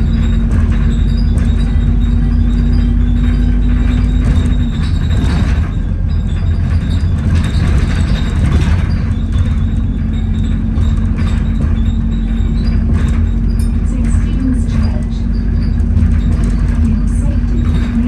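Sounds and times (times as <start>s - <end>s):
bus rumble: 0.0s - 18.0s
droning whine: 0.0s - 18.0s
rattling: 0.0s - 18.0s.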